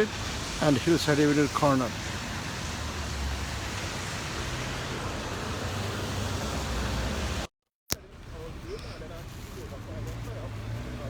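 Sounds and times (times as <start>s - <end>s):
hiss of passing cars: 0.0s - 7.5s, 8.1s - 11.0s.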